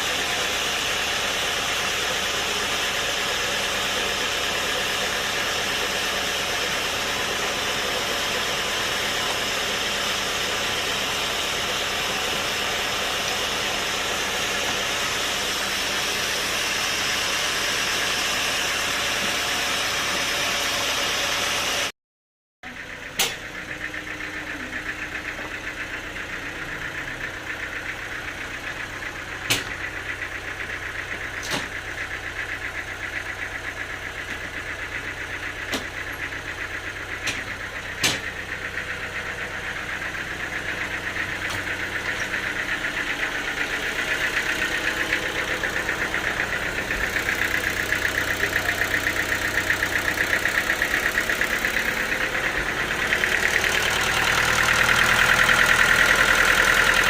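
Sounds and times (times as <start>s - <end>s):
sawmill machinery running: 0.0s - 21.9s, 22.6s - 57.0s.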